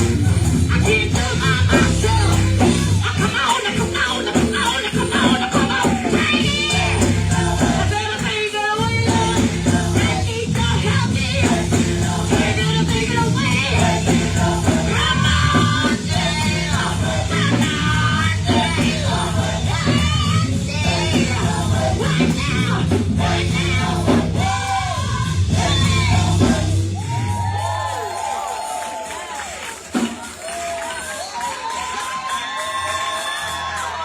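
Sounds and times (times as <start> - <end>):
lead singer: 0.0 - 27.6
gospel choir singing: 0.0 - 27.7
band playing: 0.0 - 34.0.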